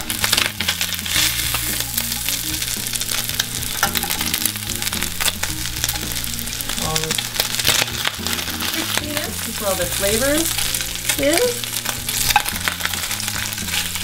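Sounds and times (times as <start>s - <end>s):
background music with bass: 0.0s - 14.0s
meat sizzling in hot oil: 0.0s - 14.0s.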